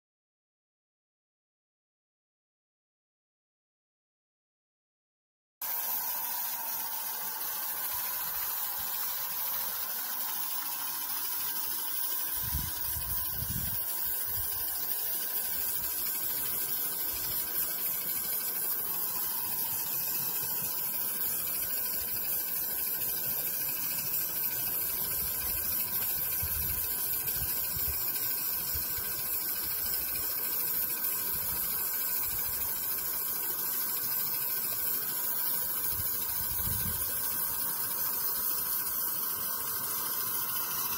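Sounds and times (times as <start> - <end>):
model steam locomotive hissing: 5.6 - 40.9.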